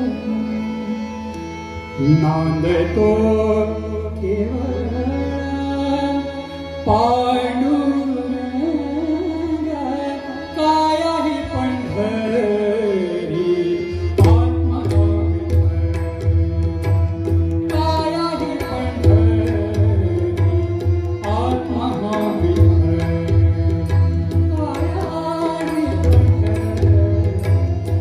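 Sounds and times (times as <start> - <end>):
man singing classical vocals: 0.0 - 1.2, 2.0 - 16.6, 17.7 - 28.0.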